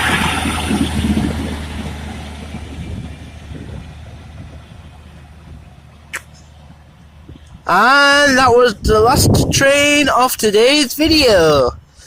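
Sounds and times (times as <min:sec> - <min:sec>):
diesel train engine droning: 0:00.0 - 0:10.5.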